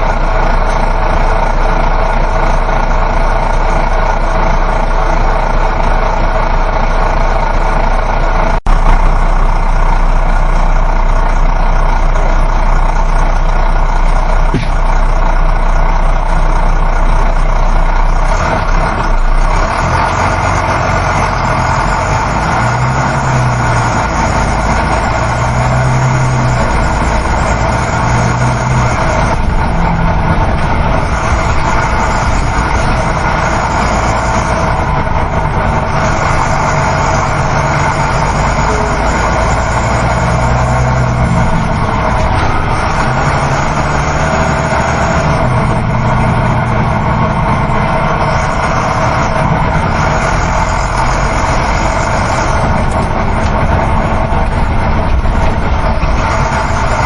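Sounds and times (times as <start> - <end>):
bus engine hum: 0.0 - 57.0
low hum: 0.0 - 57.0
tyre and road noise: 0.0 - 57.0.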